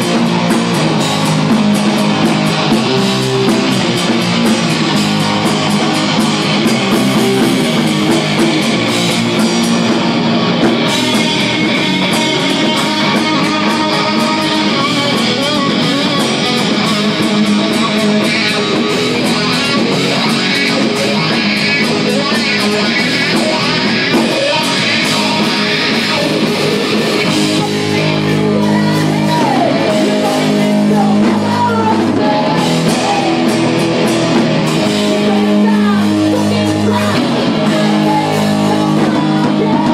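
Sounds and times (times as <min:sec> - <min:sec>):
distorted electric guitar lead: 0:00.0 - 0:39.9
hard rock band playing: 0:00.0 - 0:39.9.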